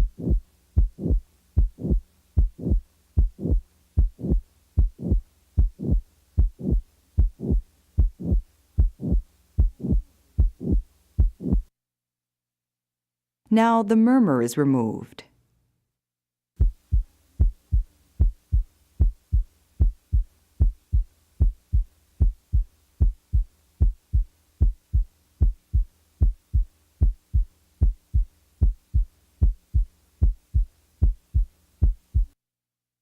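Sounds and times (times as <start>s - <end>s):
heartbeat: 0.0s - 11.7s, 16.6s - 32.4s.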